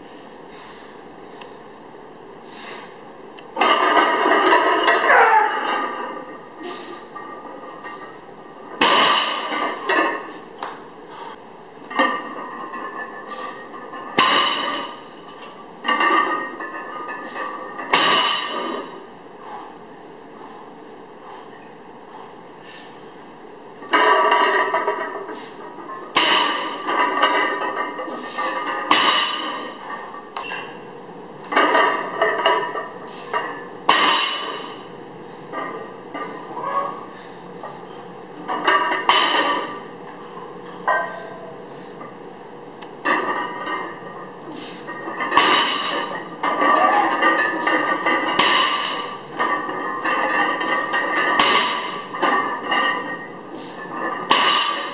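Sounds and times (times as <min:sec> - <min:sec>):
bar and plates rattling: 0:03.5 - 0:10.4, 0:11.1 - 0:19.1, 0:23.8 - 0:42.1, 0:42.9 - 0:54.9.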